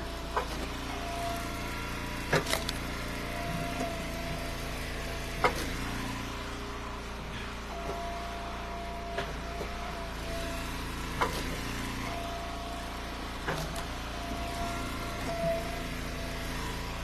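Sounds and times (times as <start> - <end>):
log splitter engine running: 0.0 - 17.0
thin whine: 0.0 - 17.0.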